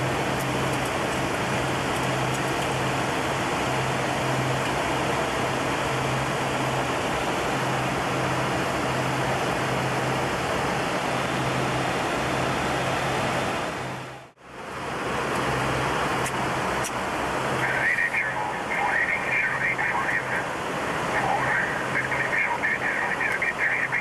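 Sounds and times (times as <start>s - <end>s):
constant low hum: 0.0s - 24.0s.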